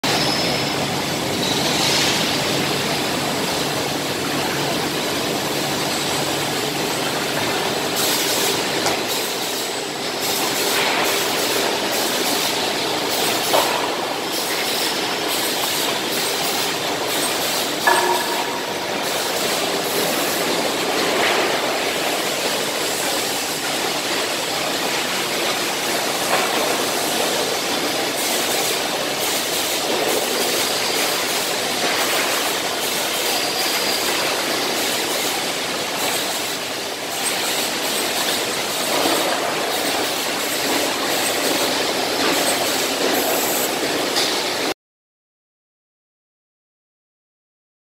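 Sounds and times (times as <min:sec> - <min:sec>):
conveyor running: 0:00.0 - 0:44.8.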